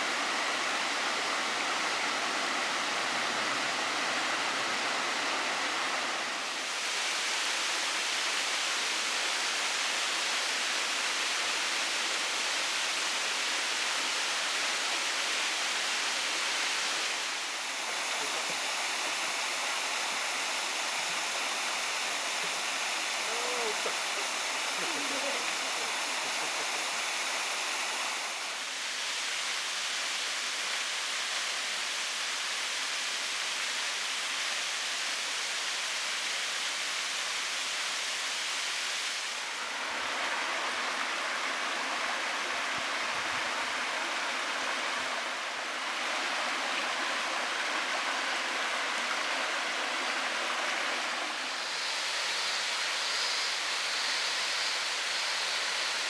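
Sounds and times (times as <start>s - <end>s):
waterfall rushing: 0.0s - 31.2s, 37.9s - 56.0s.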